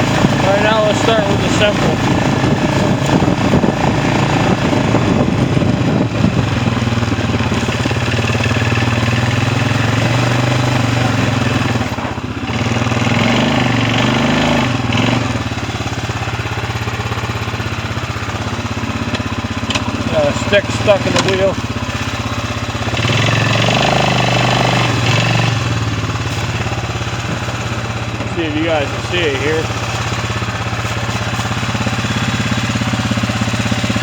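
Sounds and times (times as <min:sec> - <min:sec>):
small vehicle engine running: 0:00.0 - 0:34.0.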